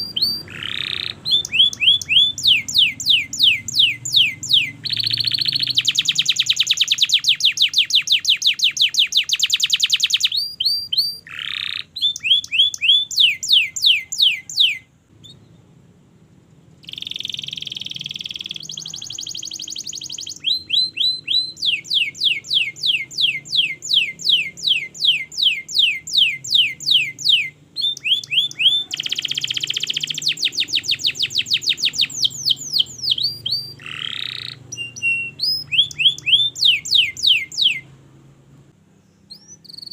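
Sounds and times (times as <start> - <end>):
canary singing trills: 0.0 - 38.2, 39.0 - 39.9.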